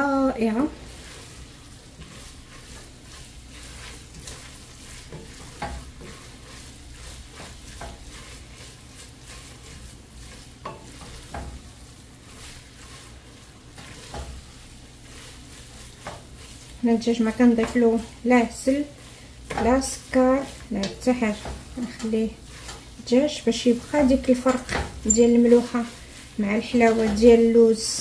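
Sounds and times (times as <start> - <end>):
food sizzling in butter: 0.0 - 28.0.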